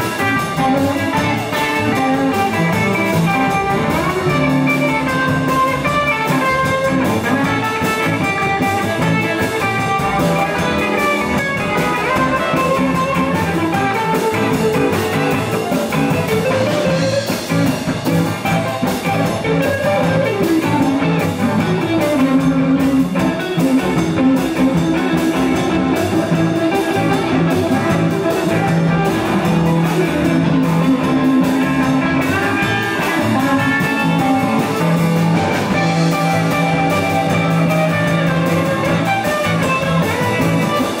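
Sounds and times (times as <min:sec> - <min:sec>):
drum kit beat: 0:00.0 - 0:41.0
electric guitars: 0:00.0 - 0:41.0.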